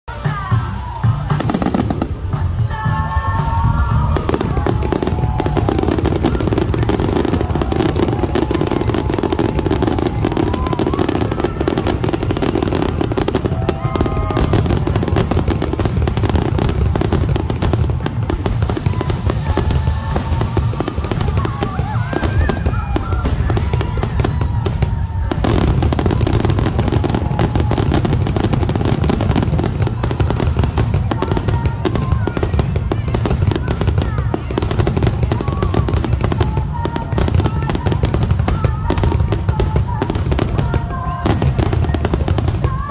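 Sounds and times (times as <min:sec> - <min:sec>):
fireworks booming and crackling: 0:00.1 - 0:42.9.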